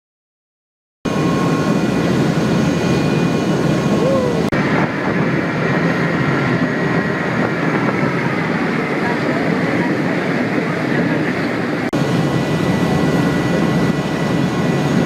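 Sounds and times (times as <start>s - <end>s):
boat engine rumble: 1.1s - 15.0s.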